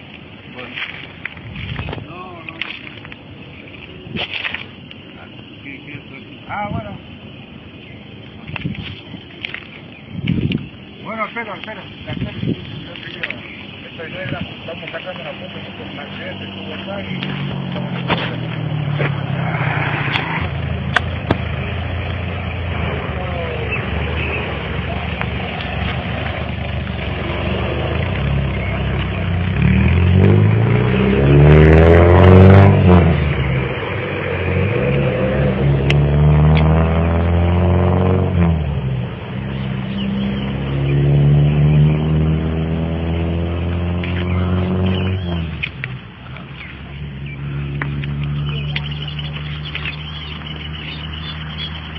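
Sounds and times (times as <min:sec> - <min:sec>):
vehicle engine humming: 0:00.0 - 0:51.9.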